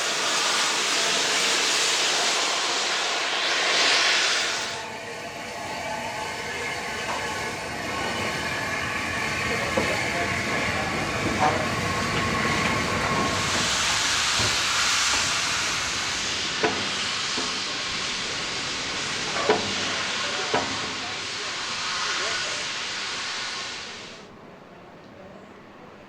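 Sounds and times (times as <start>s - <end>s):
steam hissing: 0.0s - 24.3s.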